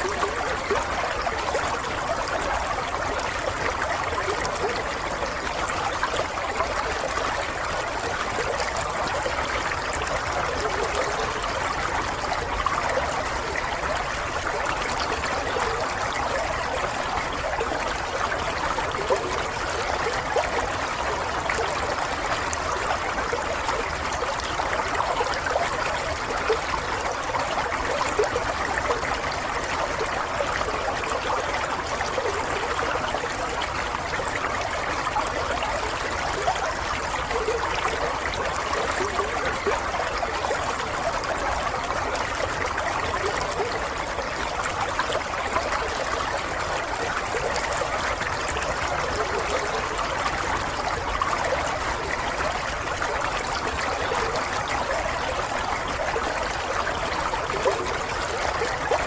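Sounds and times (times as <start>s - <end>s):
water trickling over stones: 0.0s - 59.0s.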